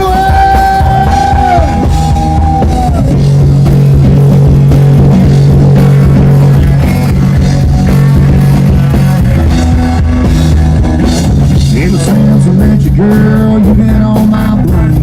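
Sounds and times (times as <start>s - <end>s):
electric guitar: 0.0s - 15.0s.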